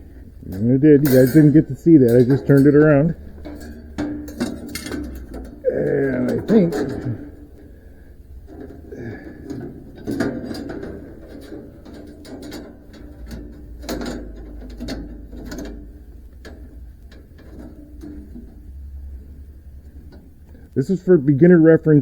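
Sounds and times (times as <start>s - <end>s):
metallic clicks and clanks: 0.0s - 20.8s
low steady hum: 0.0s - 22.0s.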